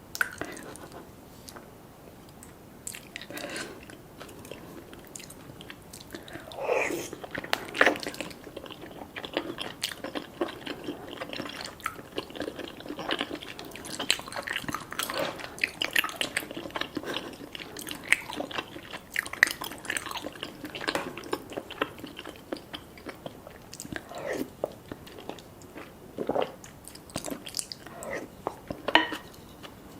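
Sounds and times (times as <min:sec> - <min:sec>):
person chewing food: 0:00.2 - 0:01.6, 0:02.3 - 0:29.9.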